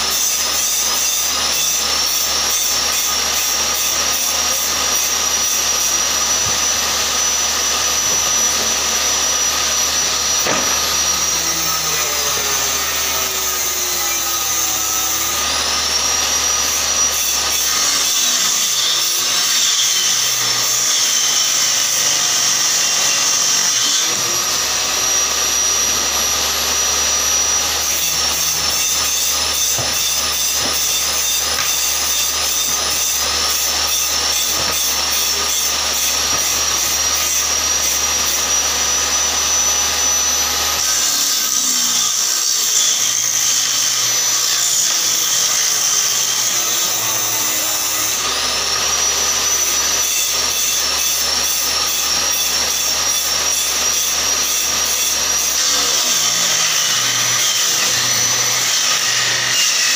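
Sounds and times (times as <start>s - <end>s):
table saw whining: 0.0s - 59.9s.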